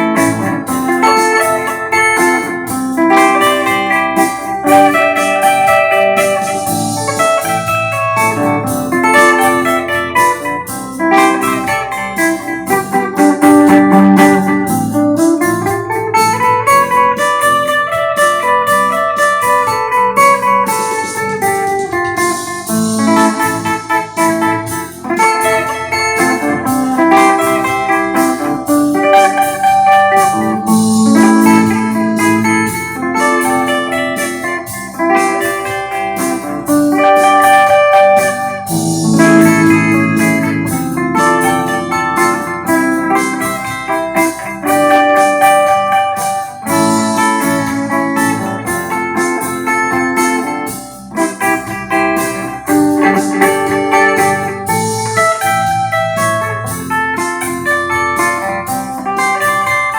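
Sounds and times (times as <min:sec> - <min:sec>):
clean electric guitar melody: 0:00.0 - 0:59.9.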